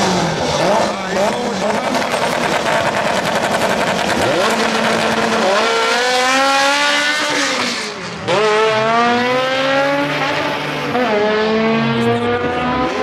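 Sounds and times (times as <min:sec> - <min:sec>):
drag cars accelerating: 0:00.0 - 0:13.0.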